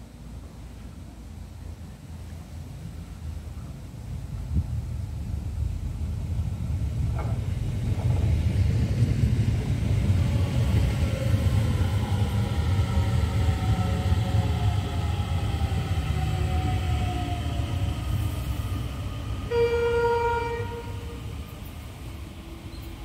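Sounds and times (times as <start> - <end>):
faint train whine: 0.0 - 23.0
train rumbling past: 0.0 - 23.0.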